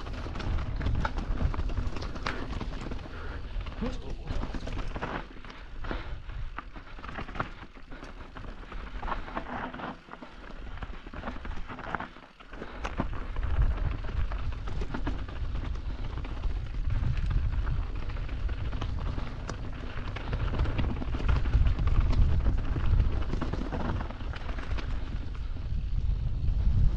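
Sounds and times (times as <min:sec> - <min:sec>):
bike rattling and clicking: 0:00.0 - 0:26.9
wind rumbling on microphone: 0:00.0 - 0:26.9.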